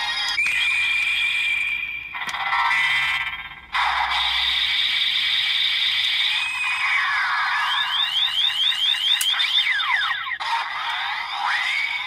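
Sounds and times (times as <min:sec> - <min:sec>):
electronic toy sound effects: 0:00.0 - 0:12.0.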